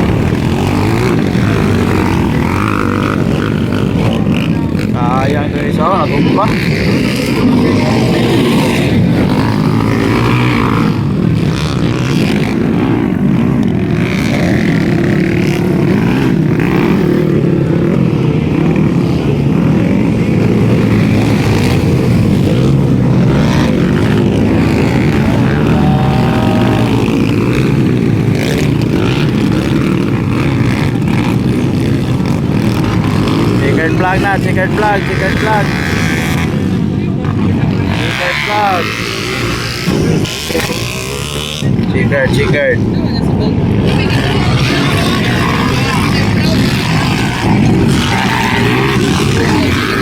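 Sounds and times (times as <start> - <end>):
motorcycle engines revving: 0.0 - 50.0.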